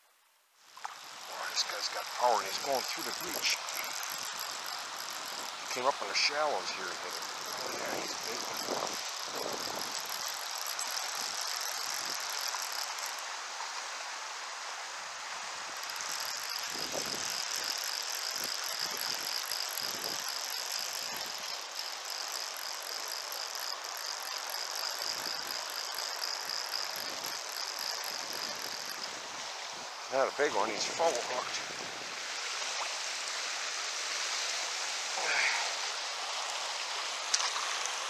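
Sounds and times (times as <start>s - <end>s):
river current rushing: 0.6s - 38.0s
fishing reel ticking: 0.8s - 13.9s, 15.4s - 31.8s, 34.1s - 38.0s.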